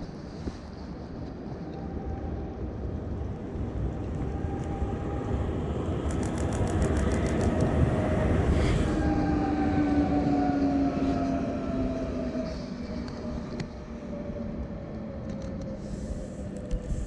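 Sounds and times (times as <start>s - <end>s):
rail vehicle rumbling: 0.0s - 17.0s.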